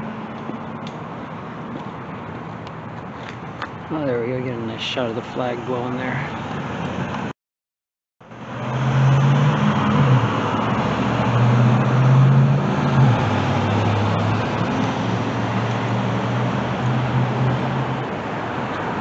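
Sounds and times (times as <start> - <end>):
vehicle engine humming: 0.0 - 7.3, 8.2 - 19.0.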